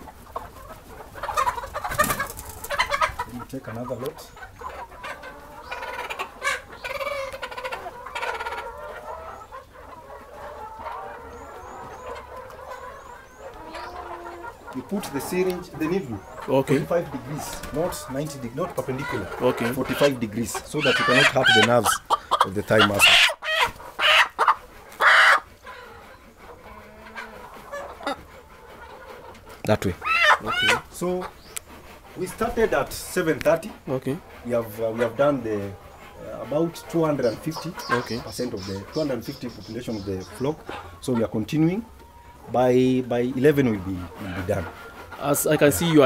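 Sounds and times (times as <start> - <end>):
chickens squawking: 0.0 - 46.0
hens clucking and calling: 0.0 - 46.0.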